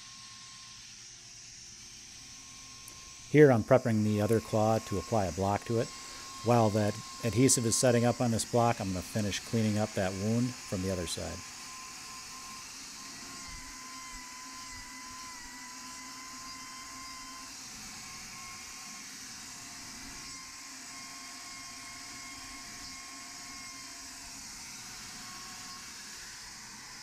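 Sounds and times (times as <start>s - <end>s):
angle grinder whining: 0.0s - 27.0s.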